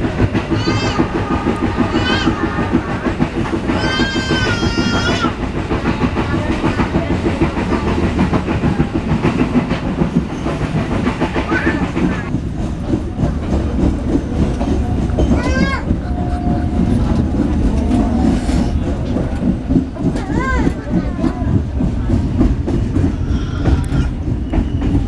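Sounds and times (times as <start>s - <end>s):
train rumbling on track: 0.0s - 25.0s
wheels clattering over rail joints: 0.0s - 25.0s.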